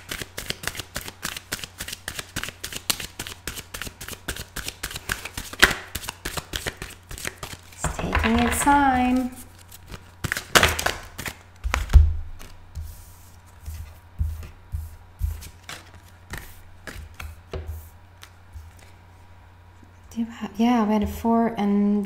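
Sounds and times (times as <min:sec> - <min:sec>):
cards being shuffled: 0:00.0 - 0:19.0.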